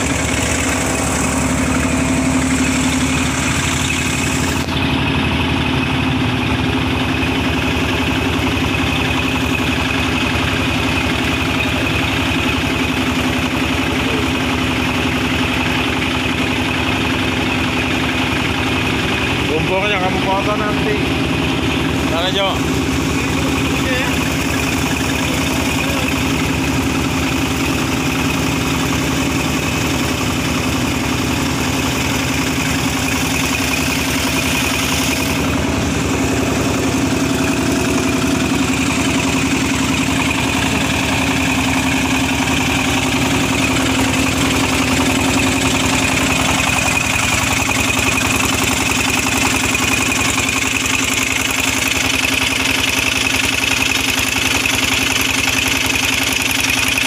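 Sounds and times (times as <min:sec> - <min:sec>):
pump engine running: 0:00.0 - 0:57.0.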